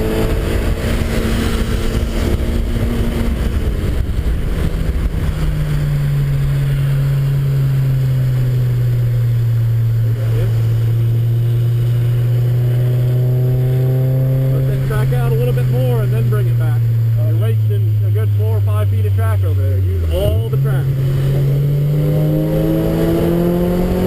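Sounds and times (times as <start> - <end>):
race car engine: 0.0 - 24.0
road and wind rumble: 0.0 - 24.0.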